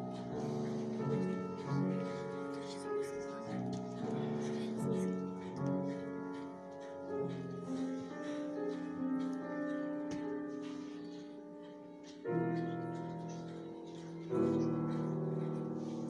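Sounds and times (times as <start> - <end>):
piano accompaniment: 0.0 - 16.0.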